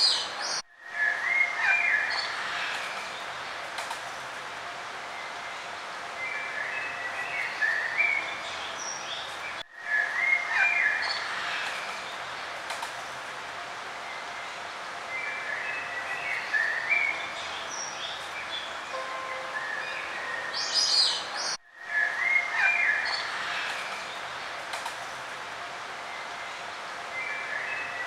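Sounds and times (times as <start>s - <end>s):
background hiss: 2.3s - 28.0s
songbirds chirping: 4.8s - 28.0s.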